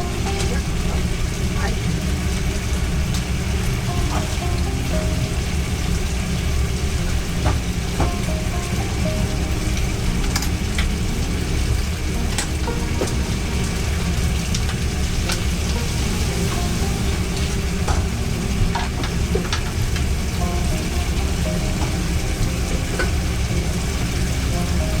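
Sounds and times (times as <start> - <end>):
food sizzling: 0.0 - 25.0
loud low rumble: 0.0 - 25.0.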